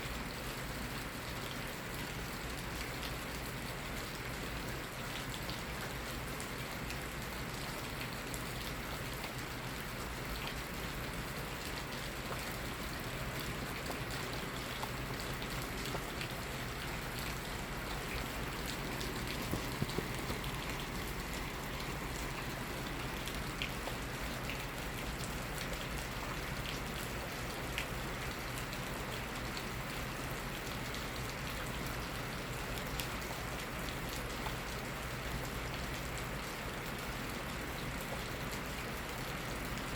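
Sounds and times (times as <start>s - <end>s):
raindrops ticking on surface: 0.1s - 39.9s
steady rain hiss: 0.1s - 39.9s.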